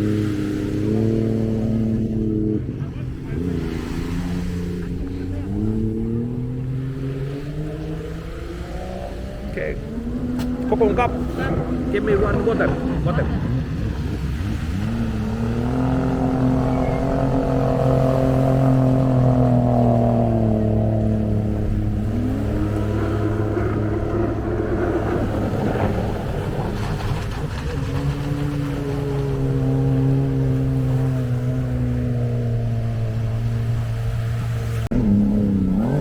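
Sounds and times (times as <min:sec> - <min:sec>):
jet ski engines running: 0:00.0 - 0:36.0.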